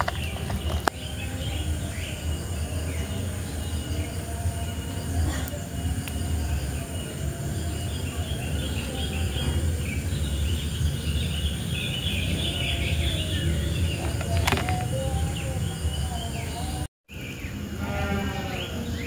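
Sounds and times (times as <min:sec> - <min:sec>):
birds twittering: 0:00.0 - 0:19.0.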